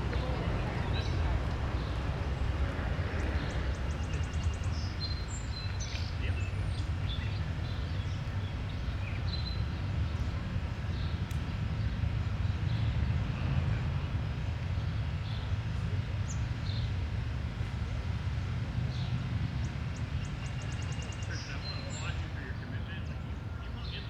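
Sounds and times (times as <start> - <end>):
steady low rumble: 0.0 - 23.8.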